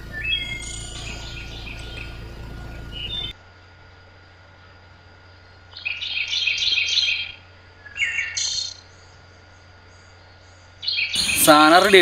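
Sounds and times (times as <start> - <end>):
songbird chirping: 0.0 - 3.4, 4.6 - 12.0.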